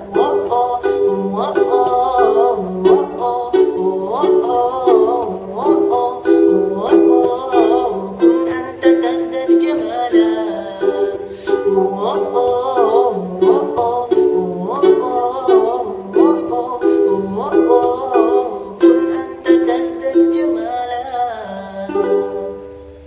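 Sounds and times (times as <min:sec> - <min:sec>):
acoustic plucked string music: 0:00.0 - 0:23.0.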